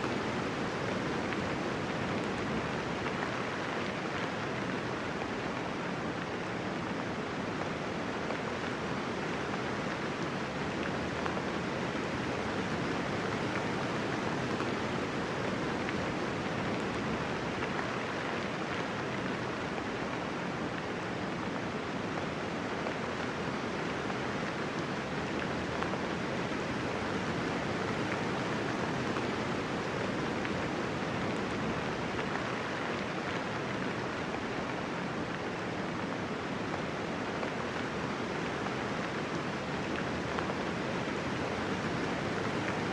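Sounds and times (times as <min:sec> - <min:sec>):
soft rain falling: 0:00.0 - 0:42.9.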